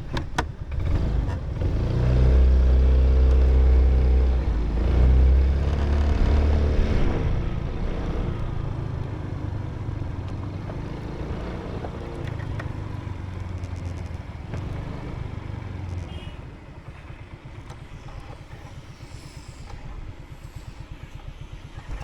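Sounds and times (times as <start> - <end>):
motorbike engine running: 0.0 - 22.0.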